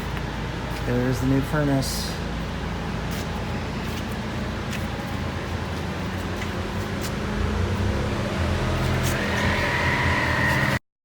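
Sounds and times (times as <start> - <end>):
low mechanical hum: 0.0 - 10.8.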